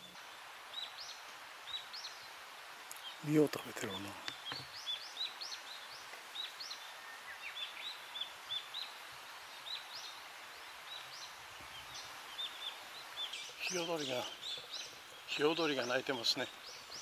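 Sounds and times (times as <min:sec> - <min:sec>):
birds chirping: 0:00.0 - 0:17.0
faint steady hiss: 0:00.0 - 0:17.0.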